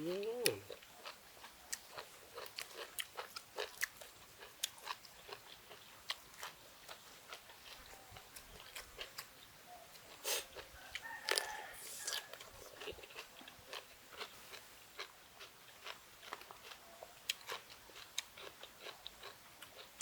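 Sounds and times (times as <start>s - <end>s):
person chewing food: 0.1s - 20.0s.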